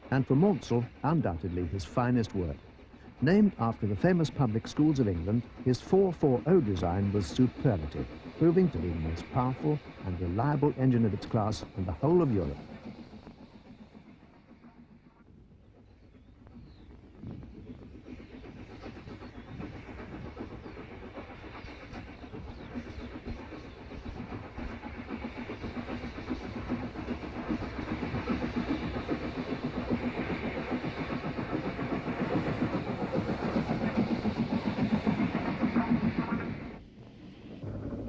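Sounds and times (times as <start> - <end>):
steam locomotive exhaust beats: 0.0 - 38.0.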